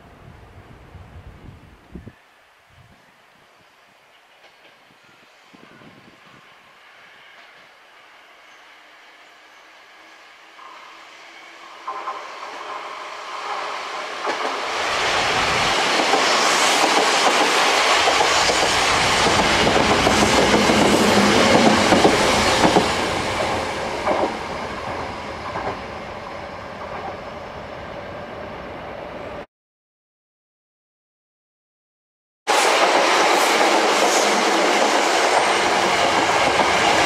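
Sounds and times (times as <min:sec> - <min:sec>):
electric train passing: 0:03.9 - 0:29.5, 0:32.5 - 0:37.0.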